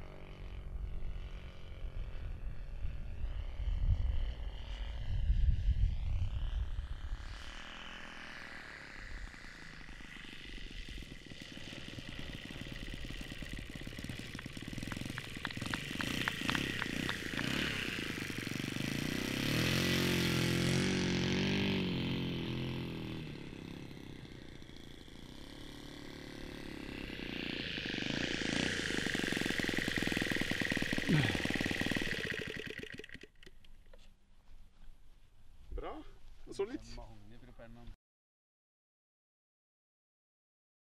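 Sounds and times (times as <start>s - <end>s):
model plane engine running: 0.0s - 34.0s.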